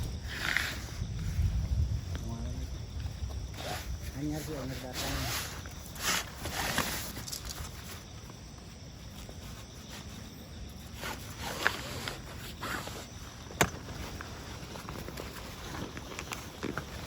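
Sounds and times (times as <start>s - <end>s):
rustling: 3.1s - 17.0s.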